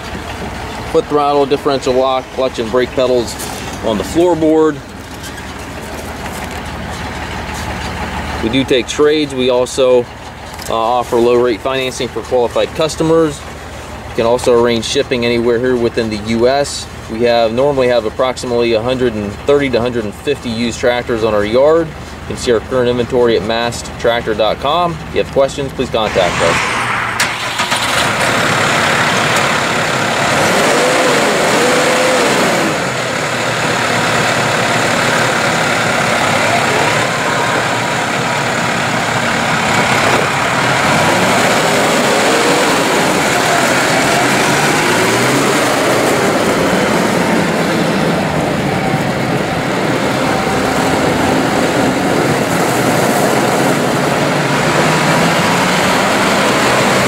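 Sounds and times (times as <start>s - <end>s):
tractor diesel engine running: 0.0s - 26.1s, 27.2s - 57.0s.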